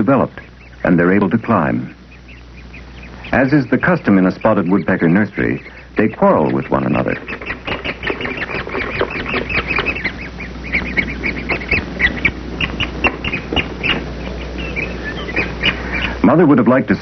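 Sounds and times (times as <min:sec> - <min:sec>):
nestlings squeaky calls: 0:00.0 - 0:17.0.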